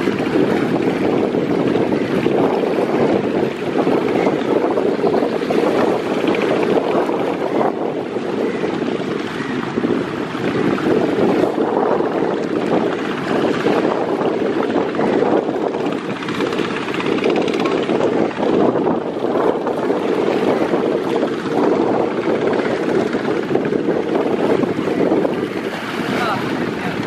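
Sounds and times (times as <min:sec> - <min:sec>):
boat rumbling through rough water: 0:00.0 - 0:27.0
wind buffeting microphone: 0:00.0 - 0:27.0.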